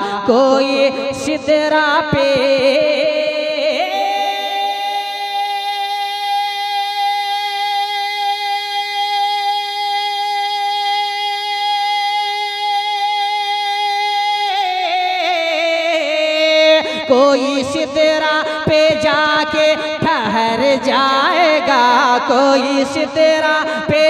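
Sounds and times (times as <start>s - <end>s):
man singing a long high note: 0.0s - 24.0s.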